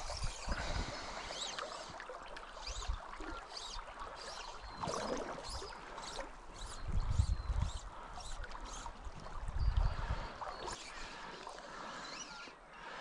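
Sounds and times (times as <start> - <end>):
river water rippling and gurgling: 0.0 - 13.0
water swirl: 0.0 - 13.0.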